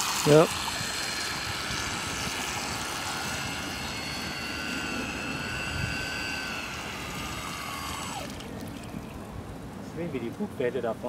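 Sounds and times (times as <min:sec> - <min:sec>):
electric model motors whining: 0:00.0 - 0:10.3.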